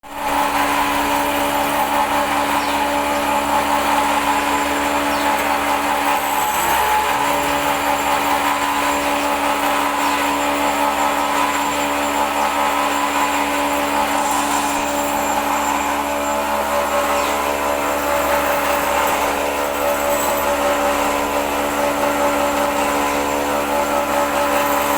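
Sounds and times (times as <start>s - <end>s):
electric motor hum: 0.1s - 24.9s
noisy machining sound: 0.1s - 24.9s.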